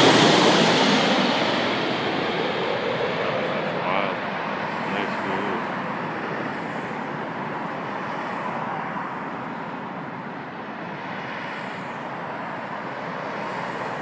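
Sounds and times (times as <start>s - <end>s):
airliner jet roar overhead: 0.0s - 14.0s.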